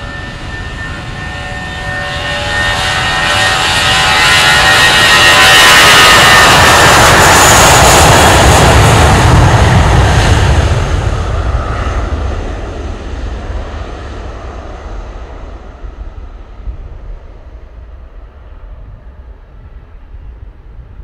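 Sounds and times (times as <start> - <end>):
buzzsaw tone of jet engines: 0.0 - 21.0
jet engines roaring at takeoff: 0.0 - 21.0.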